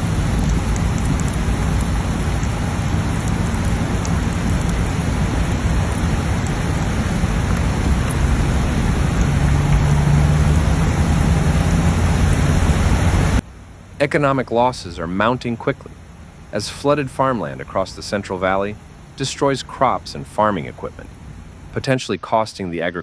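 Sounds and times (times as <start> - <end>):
heavy rain pouring: 0.0 - 21.8
low steady hum: 0.0 - 23.0.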